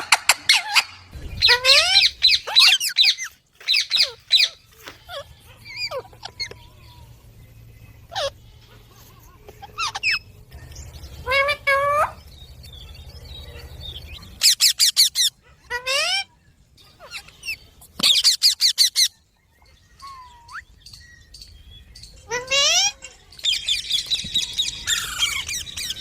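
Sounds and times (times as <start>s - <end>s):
parrots calling: 0.0s - 7.0s, 8.0s - 8.4s, 9.6s - 10.4s, 11.2s - 12.3s, 13.4s - 21.3s, 22.0s - 26.0s.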